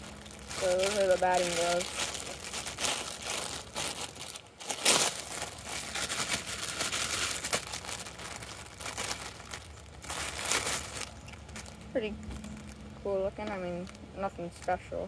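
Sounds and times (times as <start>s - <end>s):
plastic bag crinkling and rustling: 0.0s - 14.9s.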